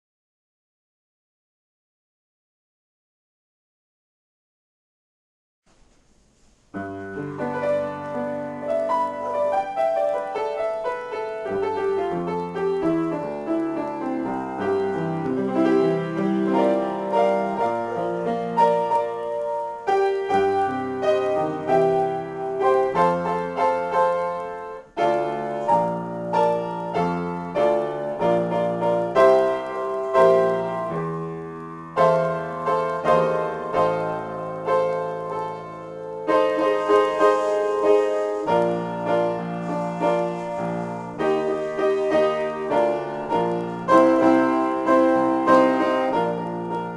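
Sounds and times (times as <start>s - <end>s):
solo piano improvisation: 5.7s - 46.9s.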